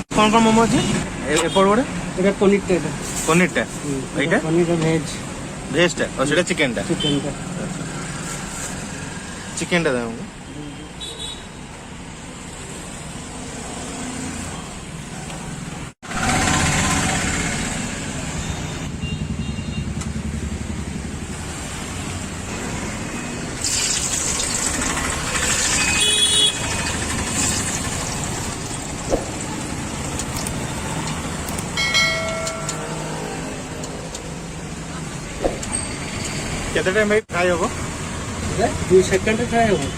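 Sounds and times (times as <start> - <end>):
passing traffic: 0.0 - 39.9
street bustle: 0.0 - 39.9.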